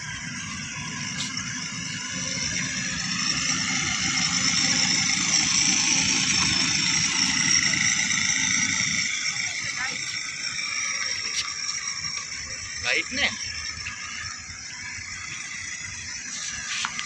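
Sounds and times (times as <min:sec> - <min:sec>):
toy motor high whine: 0:00.0 - 0:17.0
toy motorbike rumbling on paving: 0:00.0 - 0:17.0.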